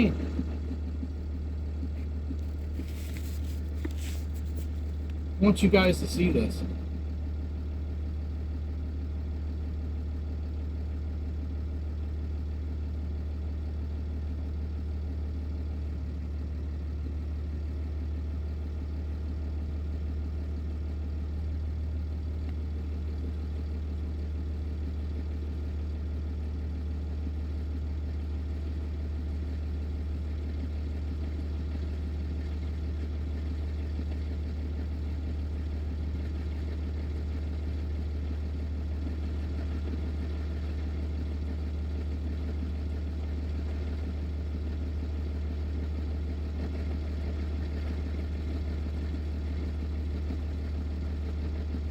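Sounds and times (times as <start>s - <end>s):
truck diesel engine idling: 0.0s - 51.9s.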